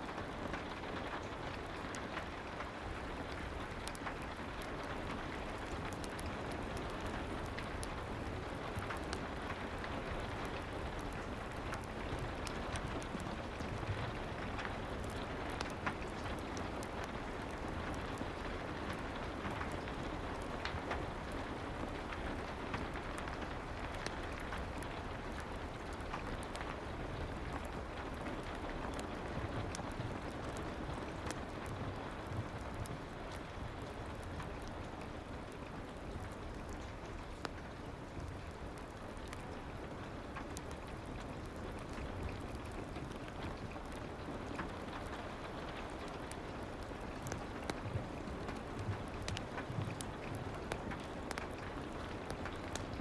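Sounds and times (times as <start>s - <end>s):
soft rain: 0.0s - 53.0s.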